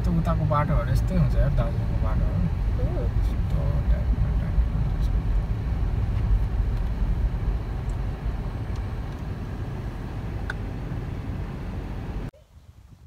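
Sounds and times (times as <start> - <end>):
car driving from inside cabin: 0.0 - 12.3.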